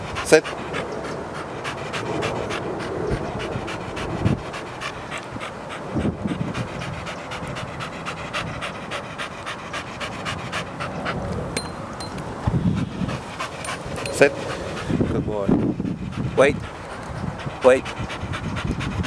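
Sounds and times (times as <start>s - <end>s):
dog panting: 0.0s - 11.6s, 12.4s - 19.0s.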